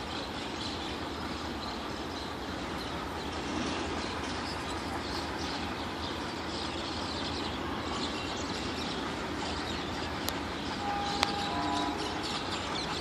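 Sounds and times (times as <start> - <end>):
distant train rumble: 0.0 - 13.0.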